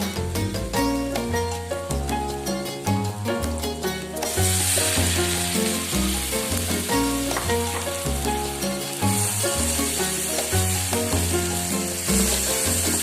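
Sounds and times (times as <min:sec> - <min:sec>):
background music with plucked melody: 0:00.0 - 0:13.0
tofu sizzling in a pan: 0:00.0 - 0:13.0.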